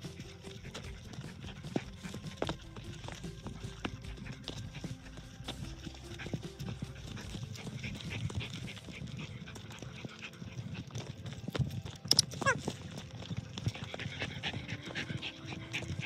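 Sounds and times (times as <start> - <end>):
dogs panting: 0.0 - 16.0
footsteps on dirt trail: 0.0 - 16.0.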